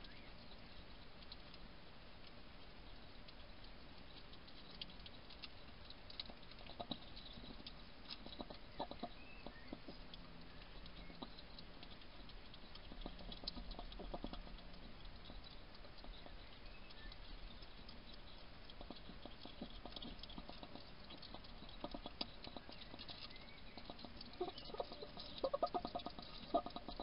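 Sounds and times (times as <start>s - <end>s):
hedgehog crunching pellet food: 0.0s - 27.0s.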